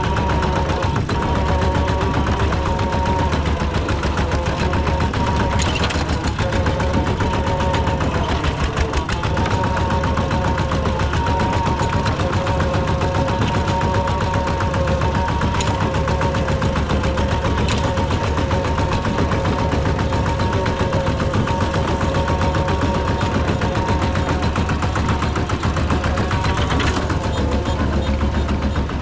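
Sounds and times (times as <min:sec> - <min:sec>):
combine harvester engine clattering: 0:00.0 - 0:29.0
constant whine: 0:00.0 - 0:29.0.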